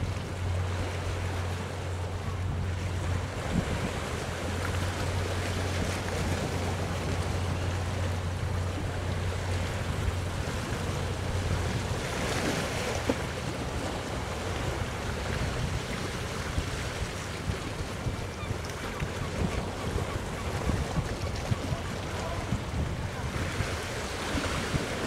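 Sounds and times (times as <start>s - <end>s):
boat engine hum: 0.0s - 25.0s
sea wash: 0.0s - 25.0s
wind buffeting microphone: 0.0s - 25.0s.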